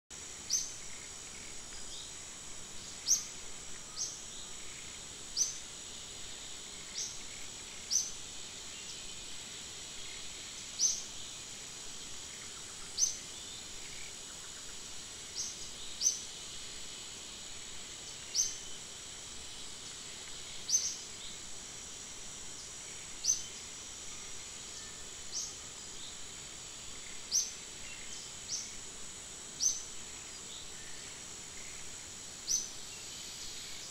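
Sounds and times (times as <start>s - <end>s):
high-pitched insect drone: 0.2s - 33.9s.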